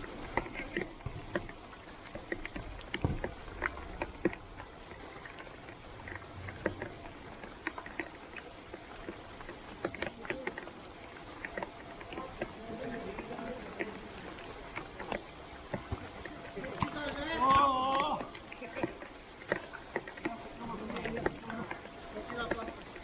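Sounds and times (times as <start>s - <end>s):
rain drops tapping and splashing: 0.0s - 23.0s
steady rain hiss: 0.0s - 23.0s.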